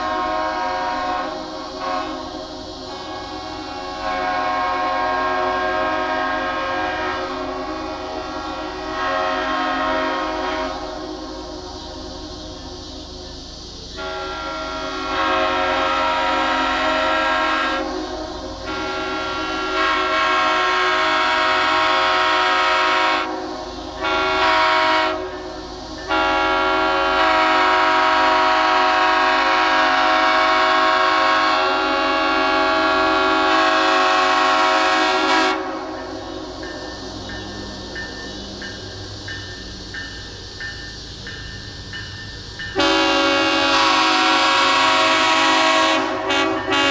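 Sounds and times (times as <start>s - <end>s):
train horn blasts: 0.0s - 12.7s, 13.9s - 39.1s, 42.7s - 46.9s.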